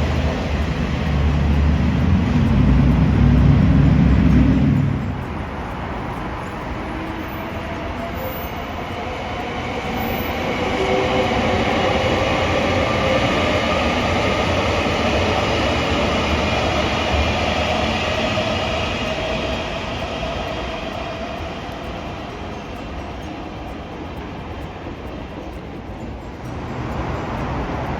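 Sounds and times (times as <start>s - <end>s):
faint high whining tones: 0.0s - 27.9s
train rumbling past on rails: 0.0s - 27.9s.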